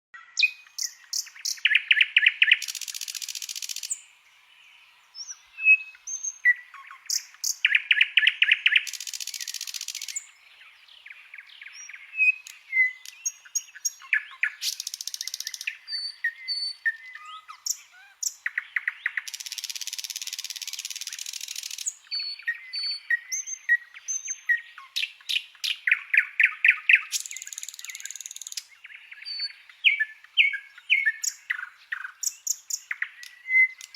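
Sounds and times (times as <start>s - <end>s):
songbird singing: 0.2s - 33.9s.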